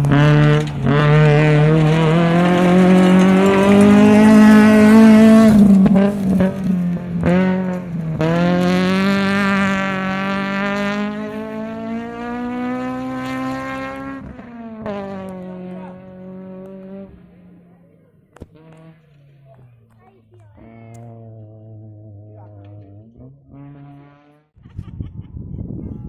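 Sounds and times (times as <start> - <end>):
rally car engine revving: 0.0 - 24.6.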